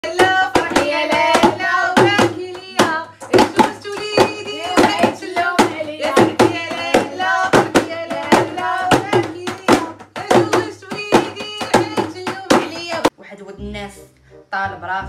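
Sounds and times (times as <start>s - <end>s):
person singing: 0.0s - 13.1s
rhythmic hand clapping: 0.0s - 13.1s.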